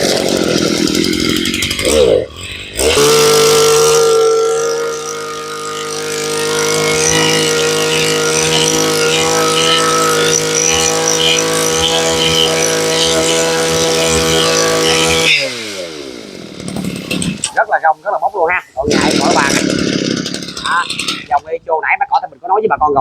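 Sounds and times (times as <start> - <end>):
brush cutter engine high revs: 0.0 - 22.2.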